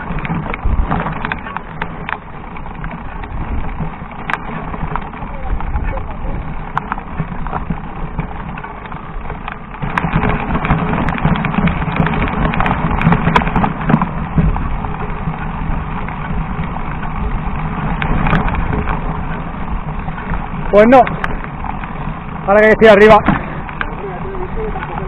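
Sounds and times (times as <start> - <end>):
bike rattling: 0.0 - 25.0
bike tyres crunching over stones: 0.0 - 25.0
rough rushing noise: 0.0 - 25.0.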